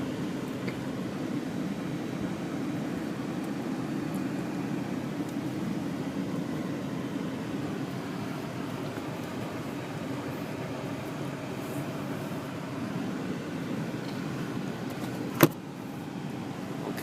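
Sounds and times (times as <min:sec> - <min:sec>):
road noise: 0:00.0 - 0:17.0
truck engine hum: 0:00.0 - 0:17.0.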